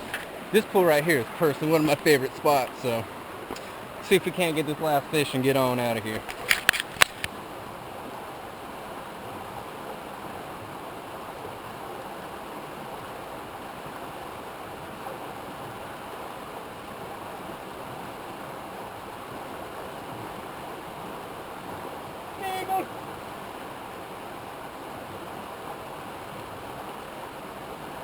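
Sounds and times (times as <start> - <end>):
river water rushing over rocks: 0.0 - 28.0.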